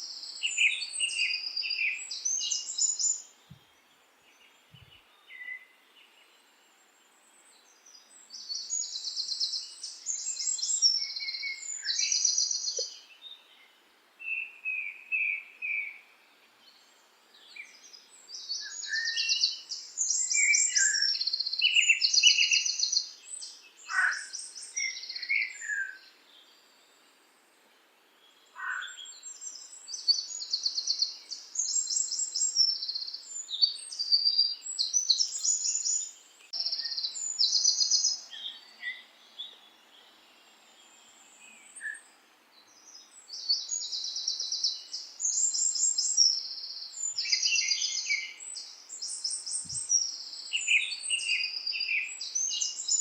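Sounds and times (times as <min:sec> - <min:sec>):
bird chirps: 0:00.0 - 0:06.4, 0:07.8 - 0:16.1, 0:16.7 - 0:26.6, 0:28.4 - 0:53.0
songbirds trilling: 0:07.6 - 0:16.0, 0:16.7 - 0:26.6, 0:28.2 - 0:53.0.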